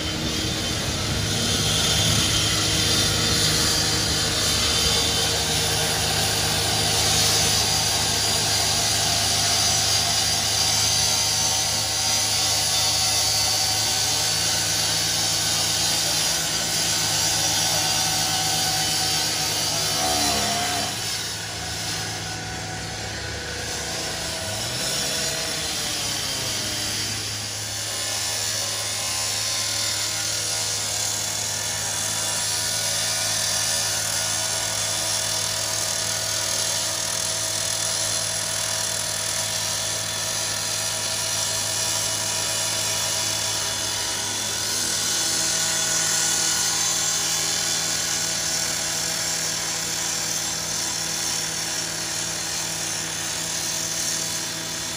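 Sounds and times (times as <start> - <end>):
saw blade grinding sheet metal: 0.0 - 54.9
saw engine droning: 0.0 - 54.9.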